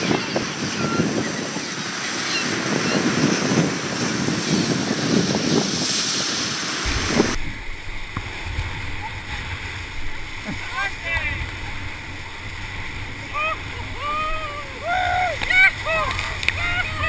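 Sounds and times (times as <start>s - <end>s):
rushing surf-like noise: 0.0s - 17.0s
whitewater rapids rushing: 0.0s - 17.0s
wind buffeting microphone: 0.0s - 17.0s.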